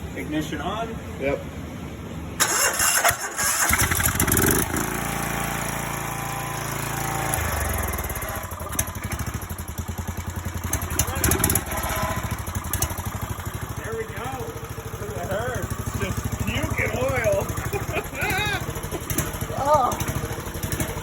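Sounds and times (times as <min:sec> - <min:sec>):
lawn mower engine cranking: 0:02.4 - 0:21.0
lawn mower engine idling: 0:02.4 - 0:21.0.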